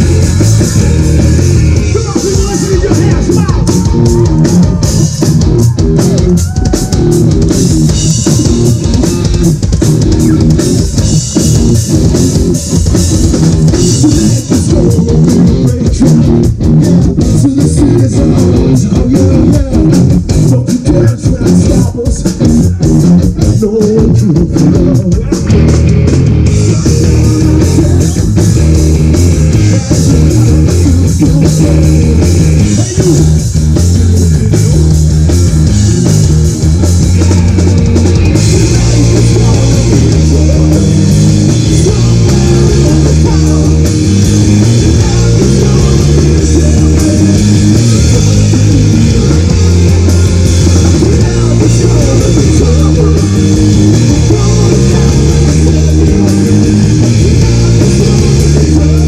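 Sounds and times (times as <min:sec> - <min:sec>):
bass guitar: 0:00.0 - 0:59.0
distorted electric guitars: 0:00.0 - 0:59.0
drum kit with crashing cymbals: 0:00.0 - 0:59.0.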